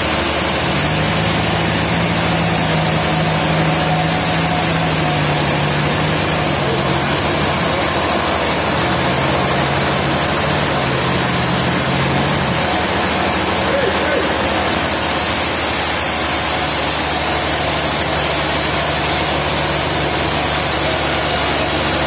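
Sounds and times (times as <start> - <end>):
low engine hum: 0.0 - 22.0
sawmill machinery running: 0.0 - 22.0.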